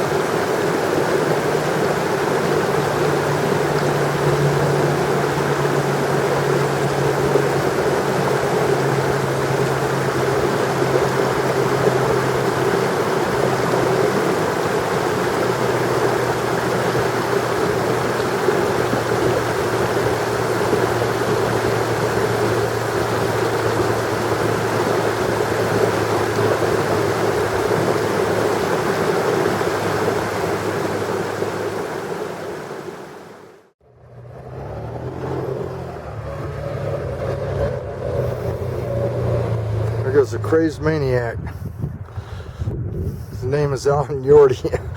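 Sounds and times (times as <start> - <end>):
road and wind noise: 0.0 - 44.9
vehicle engine running: 1.3 - 31.6, 33.8 - 44.9.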